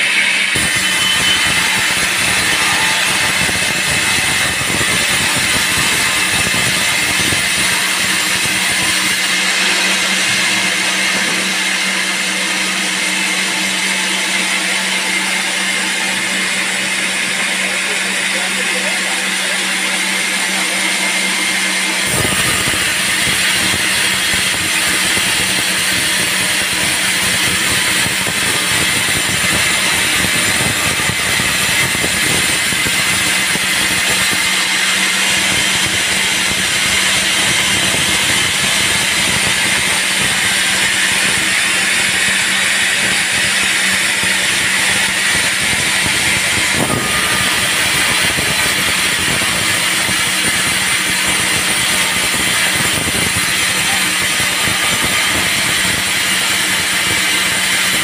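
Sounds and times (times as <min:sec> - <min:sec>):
band saw cutting wood: 0:00.0 - 0:58.0
machine hum: 0:00.0 - 0:58.0.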